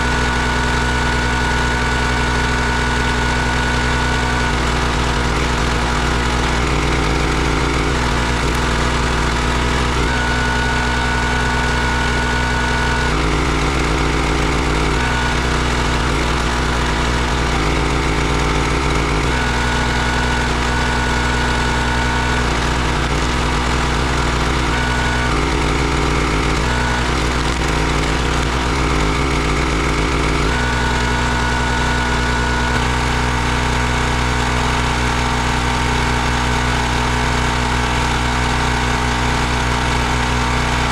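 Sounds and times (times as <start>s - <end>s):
log splitter engine running: 0.0s - 40.9s.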